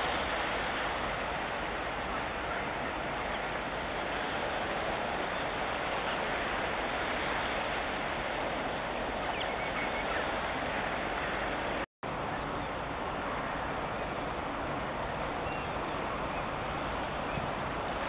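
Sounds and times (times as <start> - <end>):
surf washing on shore: 0.0 - 18.0
wind: 0.0 - 18.0.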